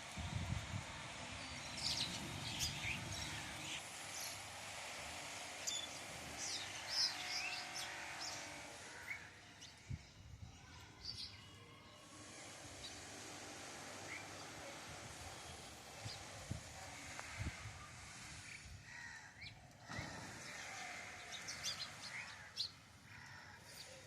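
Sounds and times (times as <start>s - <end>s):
birds chirping: 1.0s - 4.6s, 5.5s - 13.2s, 13.9s - 24.0s.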